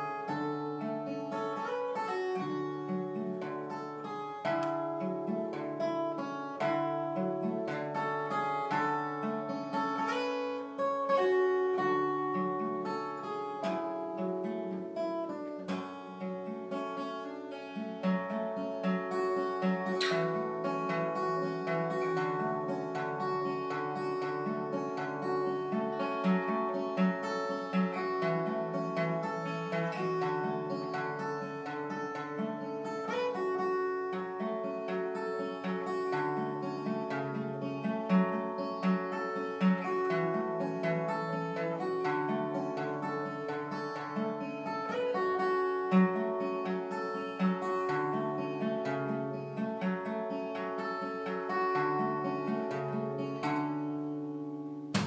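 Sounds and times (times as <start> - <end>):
acoustic guitar instrumental: 0.0 - 55.0.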